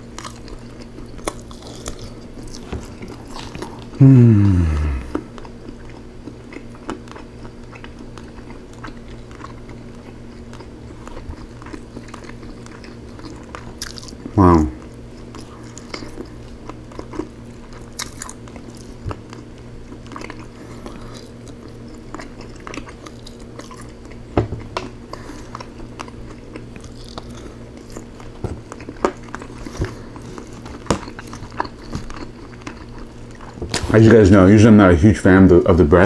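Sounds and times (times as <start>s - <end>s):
close-up chewing: 0.0s - 4.0s, 4.6s - 34.3s
steady low hum: 0.0s - 36.0s.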